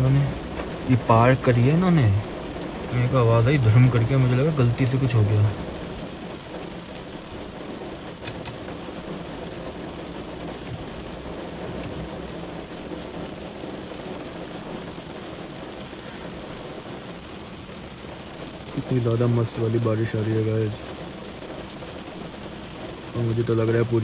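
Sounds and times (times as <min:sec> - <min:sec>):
rain on car roof: 0:00.0 - 0:24.0.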